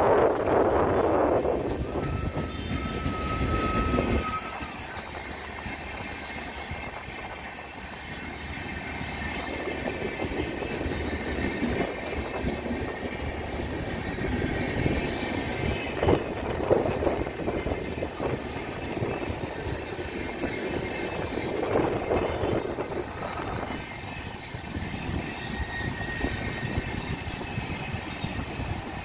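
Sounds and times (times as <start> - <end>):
train wheels clattering on rails: 0.0 - 29.0.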